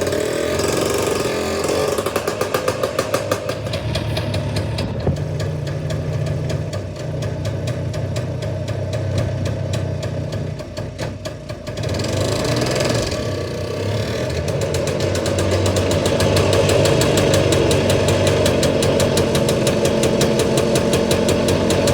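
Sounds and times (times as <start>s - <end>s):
two-stroke engine running: 0.0s - 21.9s.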